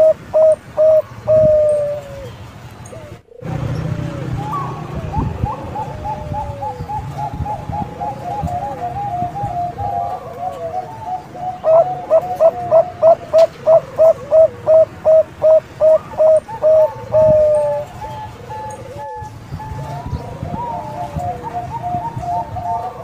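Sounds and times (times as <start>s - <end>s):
doves cooing: 0.0s - 23.0s.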